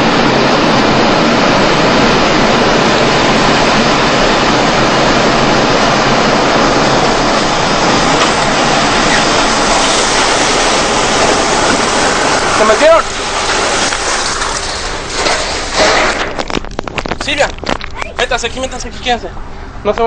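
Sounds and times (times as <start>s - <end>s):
tornado wind roaring: 0.0s - 20.0s.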